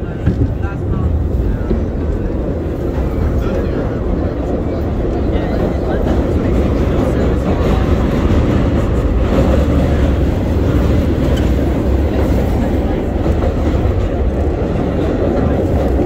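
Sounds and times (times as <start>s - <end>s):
subway train wheels rumbling on rail: 0.0s - 16.0s.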